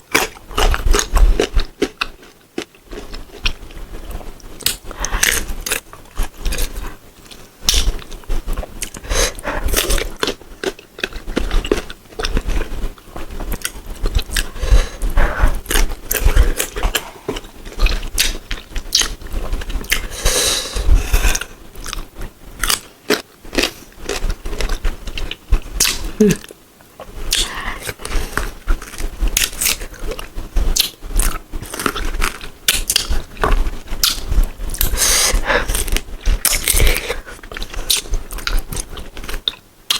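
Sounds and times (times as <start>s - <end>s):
biting and chewing crisp fruit: 0.0s - 39.9s.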